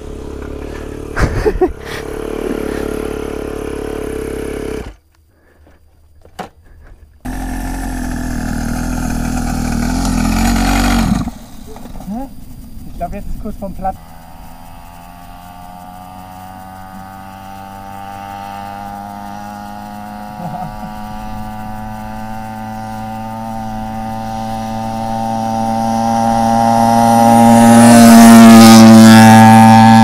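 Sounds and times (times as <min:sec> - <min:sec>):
small motorbike engine running: 0:00.0 - 0:05.5, 0:07.3 - 0:30.0.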